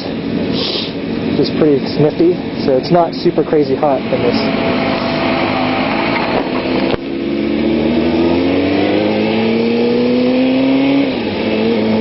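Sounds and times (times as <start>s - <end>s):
sport bike engine revving: 0.0s - 12.0s.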